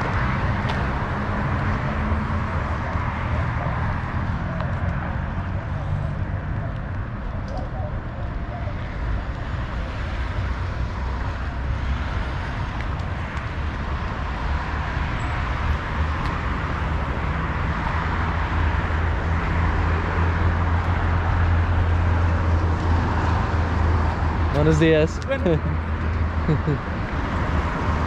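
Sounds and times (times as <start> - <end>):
road traffic hum: 0.0 - 28.0.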